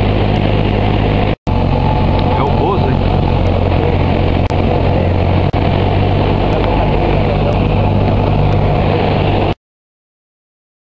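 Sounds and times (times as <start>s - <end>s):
airplane engine droning in cabin: 0.0s - 9.6s.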